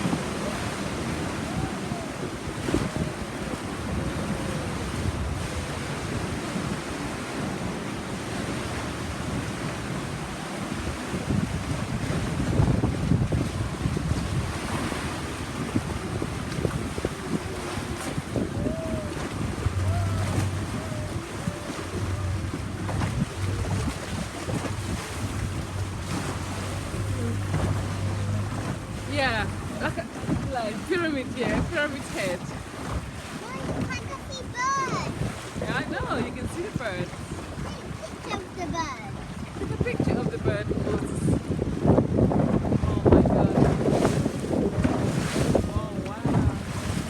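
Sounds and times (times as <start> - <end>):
sea water rushing around boat: 0.0 - 47.0
wind buffeting microphone: 0.0 - 47.0.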